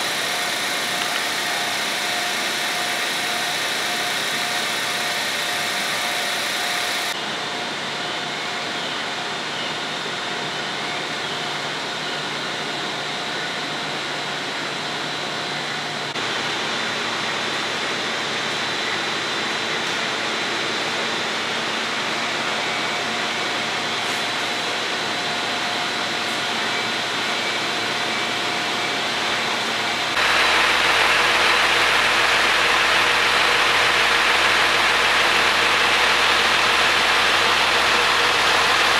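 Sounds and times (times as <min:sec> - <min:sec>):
railcar engine humming: 0:00.0 - 0:09.4, 0:11.6 - 0:38.9.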